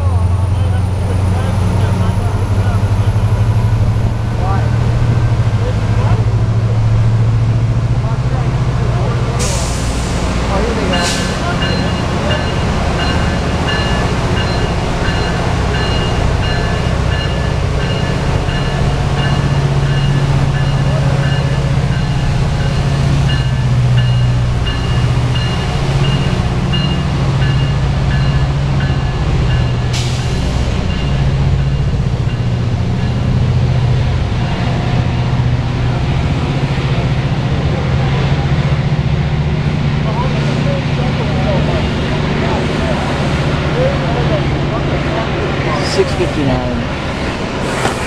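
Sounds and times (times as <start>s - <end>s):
coaches rumbling on rails: 0.0s - 48.0s
diesel locomotive engine drone: 0.0s - 48.0s.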